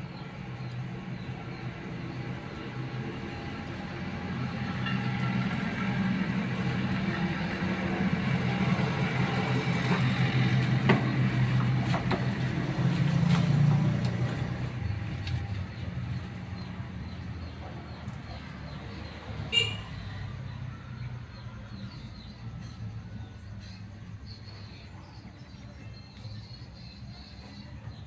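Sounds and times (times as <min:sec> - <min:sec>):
vehicle engine passing by: 0:00.0 - 0:23.9.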